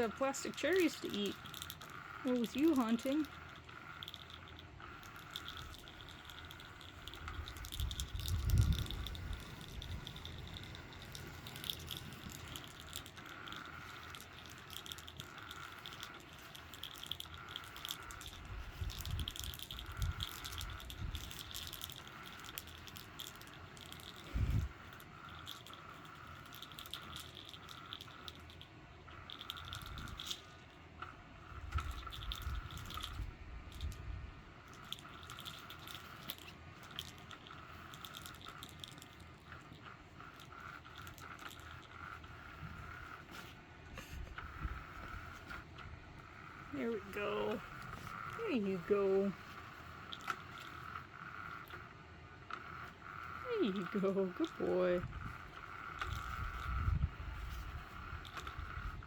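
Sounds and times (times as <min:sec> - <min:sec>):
light rattling and clicks: 0:00.0 - 0:59.0
toy motor whirring: 0:00.0 - 0:59.0.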